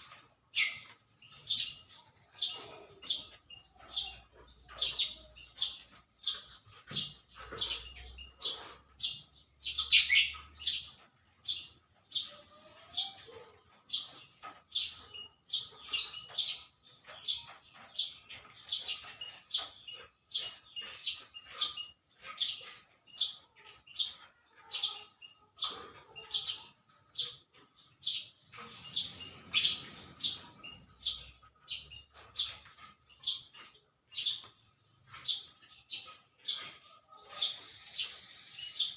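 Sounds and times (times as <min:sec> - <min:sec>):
small bird chirping: 0:00.0 - 0:38.9.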